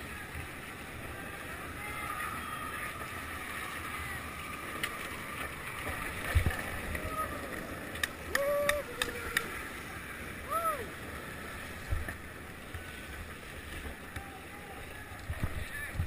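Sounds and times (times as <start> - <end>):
longboard wheels rolling on asphalt: 0.0 - 16.0.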